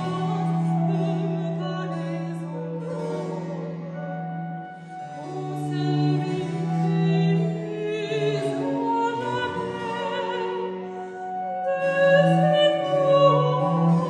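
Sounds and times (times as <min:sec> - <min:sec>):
cello: 0:00.0 - 0:14.0
soprano singing with vibrato: 0:00.0 - 0:14.0
wooden flute playing: 0:00.0 - 0:14.0.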